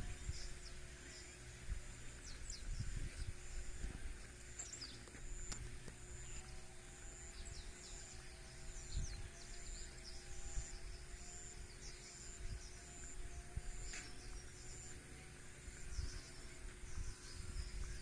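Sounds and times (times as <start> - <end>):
insect and bird calls: 0.0 - 18.0
low steady rumble: 0.0 - 18.0.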